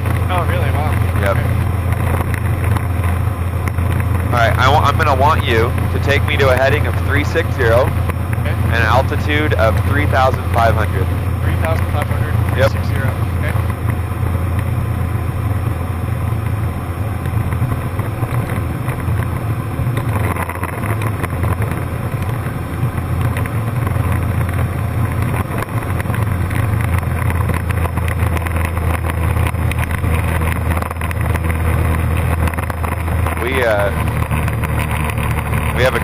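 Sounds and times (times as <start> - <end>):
airplane engine and propeller droning: 0.0 - 36.0.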